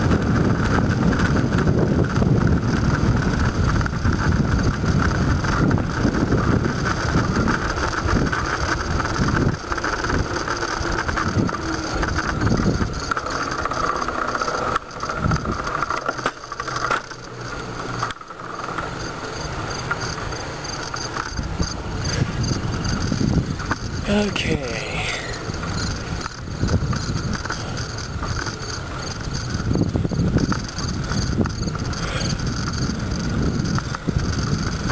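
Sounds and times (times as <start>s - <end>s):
bicycle running noise: 0.0s - 34.9s
wind buffeting microphone: 0.0s - 34.9s.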